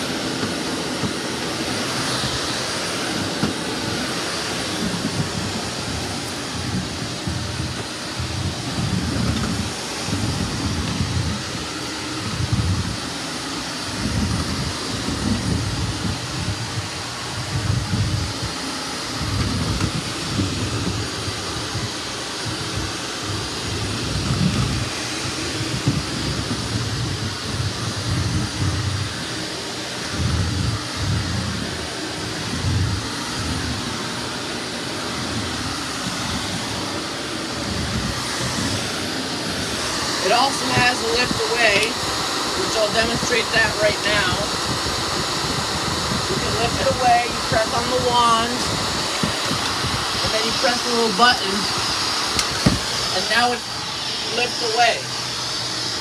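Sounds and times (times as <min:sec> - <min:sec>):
vacuum cleaner on hardwood floor: 0:00.0 - 0:56.0.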